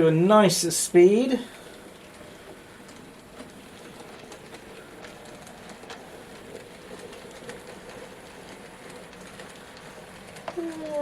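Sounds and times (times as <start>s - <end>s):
faint model train motor hum: 0.0s - 11.0s
wheels clicking on track: 0.0s - 11.0s.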